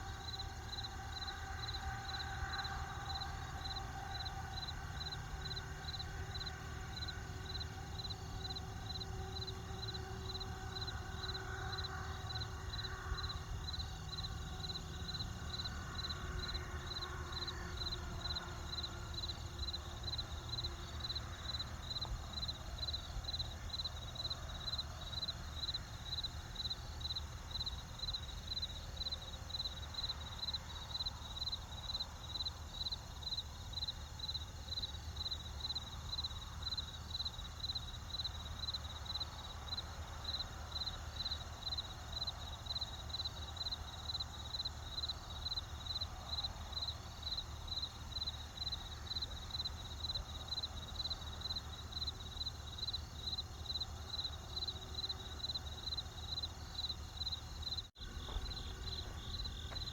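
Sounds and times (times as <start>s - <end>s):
campfire rumble and hiss: 0.0s - 59.9s
cricket chirping: 0.0s - 59.9s.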